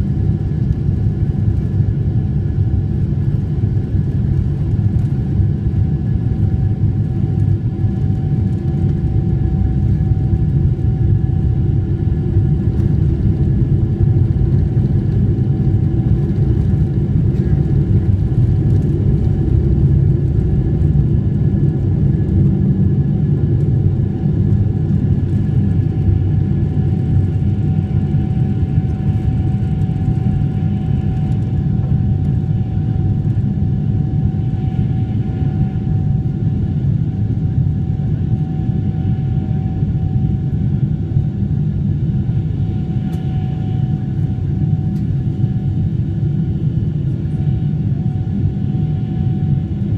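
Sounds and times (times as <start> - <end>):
engine fan whine: 0.0 - 49.9
jet engines rumbling in cabin: 0.0 - 49.9.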